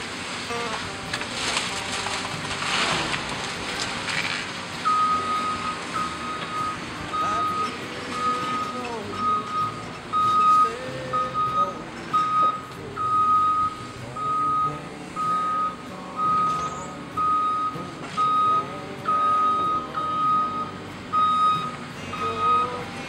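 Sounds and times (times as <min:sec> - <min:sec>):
diesel engine running: 0:00.0 - 0:23.0
excavator warning alarm beeping: 0:00.4 - 0:23.0.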